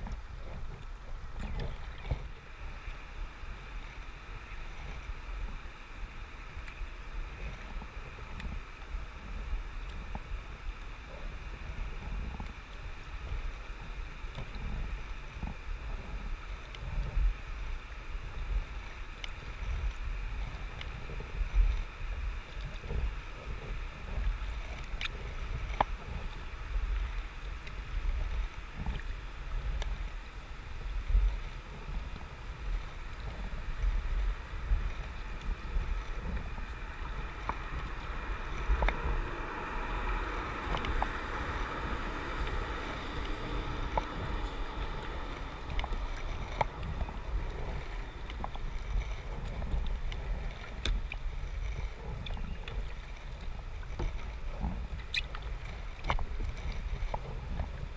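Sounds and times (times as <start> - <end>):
water rushing: 0.0 - 57.9
wind on microphone: 0.0 - 57.9.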